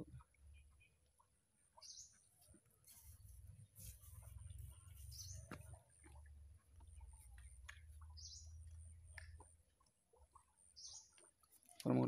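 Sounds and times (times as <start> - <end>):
bird chirping: 0.3 - 12.0.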